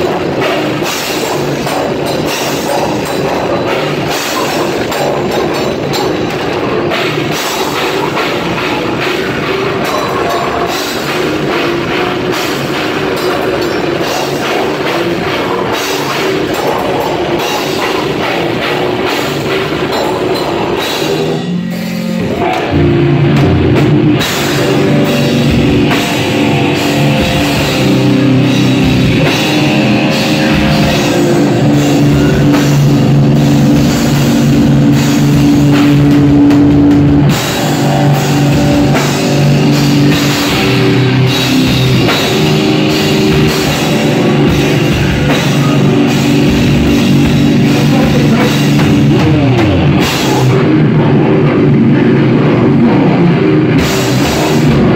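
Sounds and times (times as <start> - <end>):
distorted guitar: 0.0 - 54.9
drum kit with cymbals: 0.0 - 54.9
heavy metal band playing live: 0.0 - 54.9.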